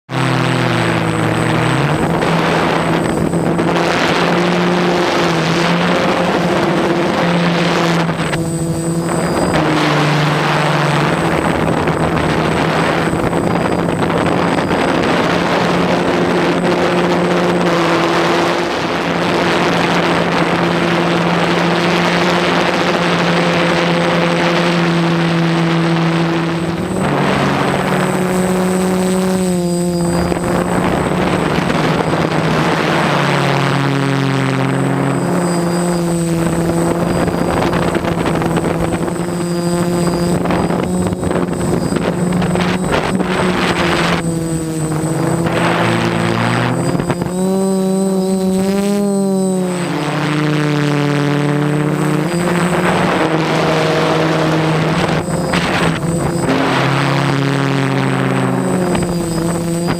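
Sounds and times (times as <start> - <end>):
drone motors buzzing: 0.1 - 59.9.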